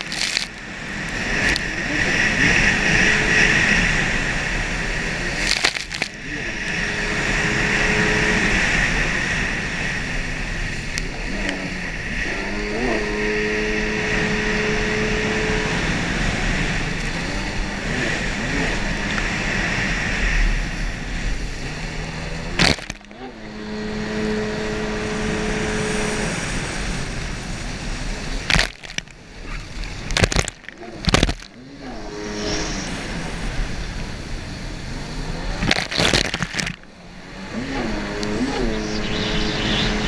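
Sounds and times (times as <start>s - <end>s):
jet ski engine running: 0.0s - 40.0s
rushing water: 0.0s - 40.0s
wind: 0.0s - 40.0s.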